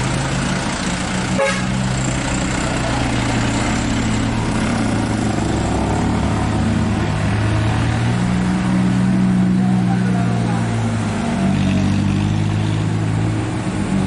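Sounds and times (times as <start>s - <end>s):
truck diesel engine droning: 0.0s - 14.0s.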